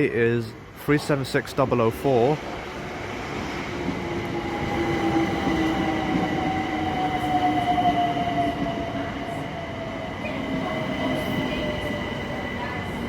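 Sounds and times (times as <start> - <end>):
train wheels rumbling on rails: 1.9 - 13.0
electric train whine: 2.5 - 13.0.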